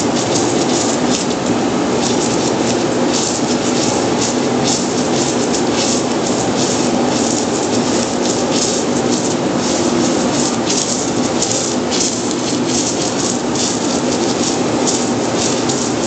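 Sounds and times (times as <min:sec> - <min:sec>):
welding arc humming and crackling: 0:00.0 - 0:16.0.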